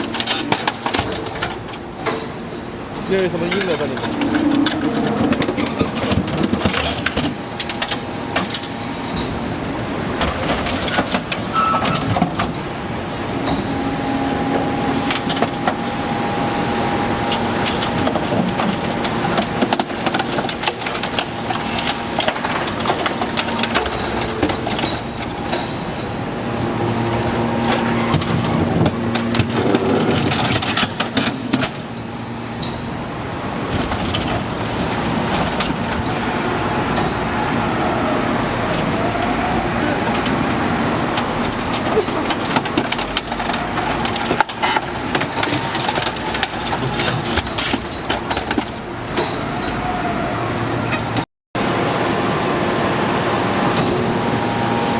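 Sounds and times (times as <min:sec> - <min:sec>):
scrap metal clanking and crunching: 0:00.0 - 0:16.0, 0:17.2 - 0:37.6, 0:38.4 - 0:49.8.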